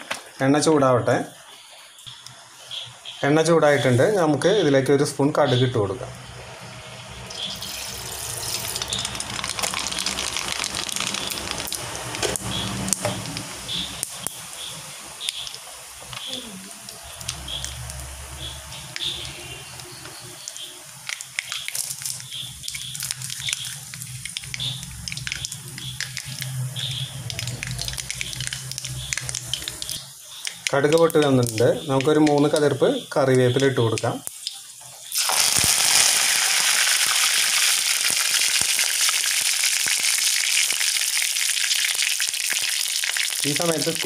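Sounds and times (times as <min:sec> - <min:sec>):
seeds sizzling and popping in oil: 0:06.6 - 0:44.0.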